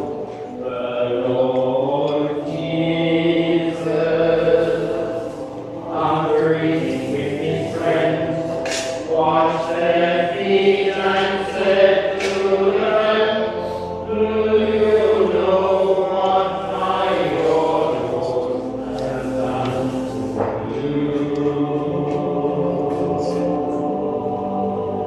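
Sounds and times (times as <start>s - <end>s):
chant-like hymn singing: 0.0s - 25.0s.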